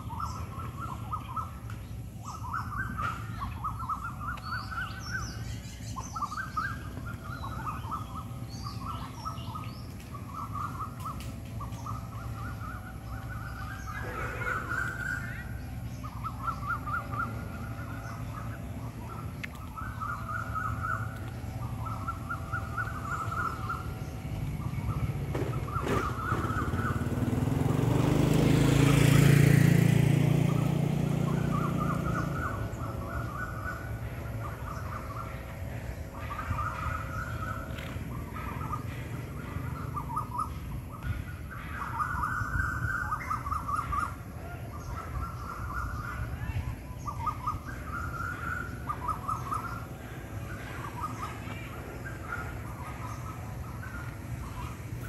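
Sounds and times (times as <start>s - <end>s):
birds singing: 0.0s - 55.0s
passing engine rumble: 0.0s - 55.0s.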